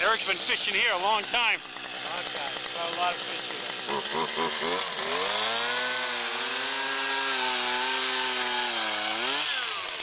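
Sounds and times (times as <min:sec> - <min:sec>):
ice auger engine revving: 0:00.0 - 0:10.0.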